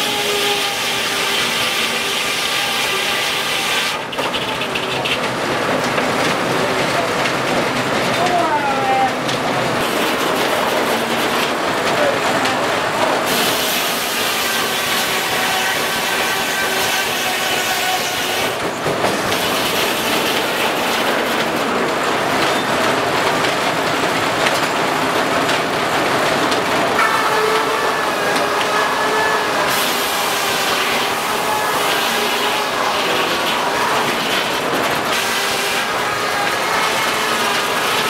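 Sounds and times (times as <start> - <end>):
sawmill machinery clatter and hiss: 0.0 - 38.0.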